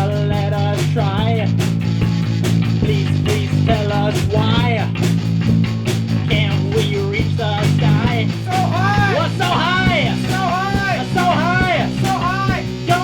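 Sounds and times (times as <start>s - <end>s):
bass line: 0.0s - 13.0s
drum hits: 0.0s - 13.0s
rock band playing: 0.0s - 13.0s.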